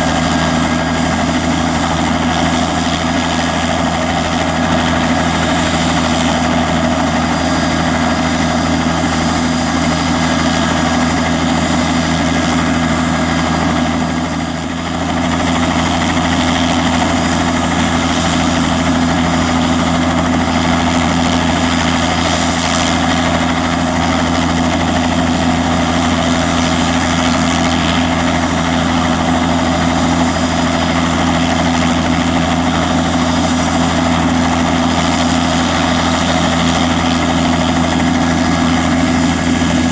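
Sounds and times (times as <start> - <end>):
helicopter rotor: 0.0 - 39.9
helicopter turbine whine: 0.0 - 39.9.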